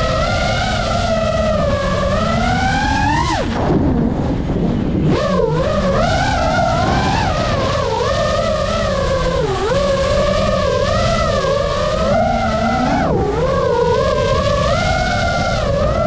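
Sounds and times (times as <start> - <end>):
quadcopter motors whining: 0.0 - 3.6, 4.2 - 16.0.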